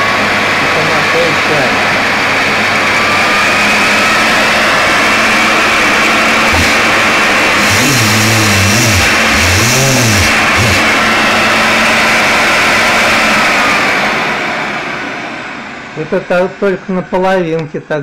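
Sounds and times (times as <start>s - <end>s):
vacuum motors whining: 0.0s - 18.0s.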